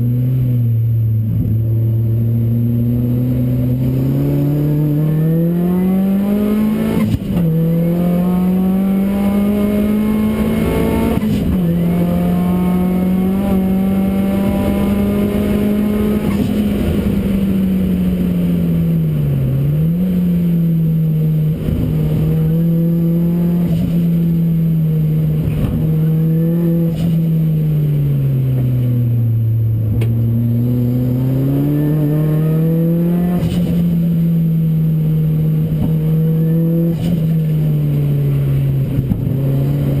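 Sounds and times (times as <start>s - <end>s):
race car engine: 0.0s - 40.0s.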